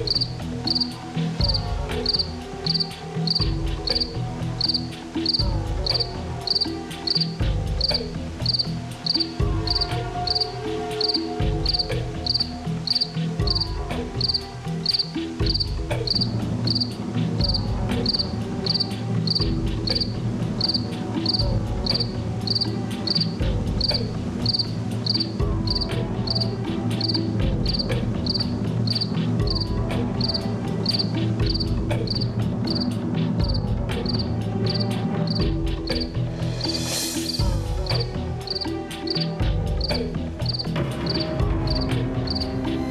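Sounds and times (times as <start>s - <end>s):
crickets chirping: 0.0s - 42.6s
low pulsing drone: 0.0s - 42.9s.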